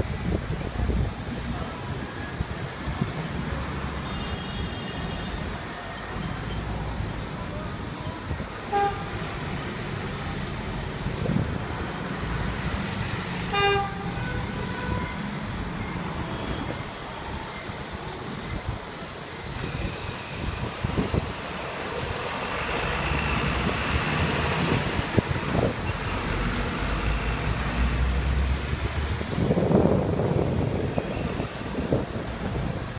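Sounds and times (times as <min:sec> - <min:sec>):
bus engine: 0:00.0 - 0:32.9
street traffic noise: 0:00.0 - 0:32.9.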